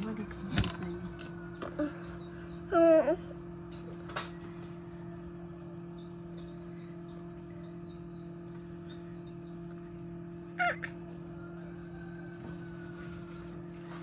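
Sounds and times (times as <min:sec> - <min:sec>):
quail chicks peeping: 0:00.0 - 0:02.7, 0:03.3 - 0:14.0
steady low hum: 0:00.0 - 0:14.0.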